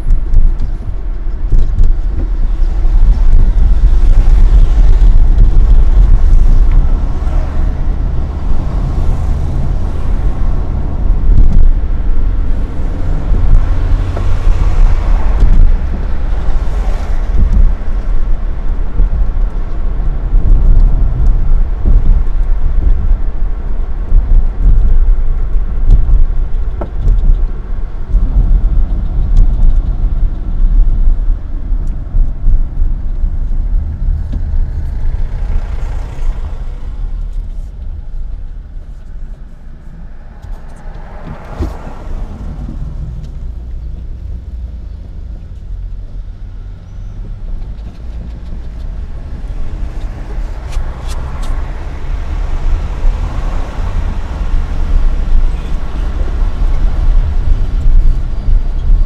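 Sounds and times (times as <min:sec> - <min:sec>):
car cabin road rumble: 0:00.0 - 0:59.0
passing traffic whoosh: 0:00.0 - 0:59.0.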